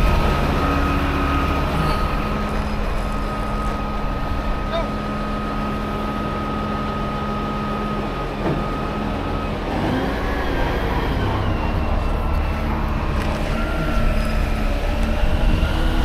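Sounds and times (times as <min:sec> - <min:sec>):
heavy diesel engine running: 0:00.0 - 0:16.0
winch whine: 0:00.0 - 0:16.0.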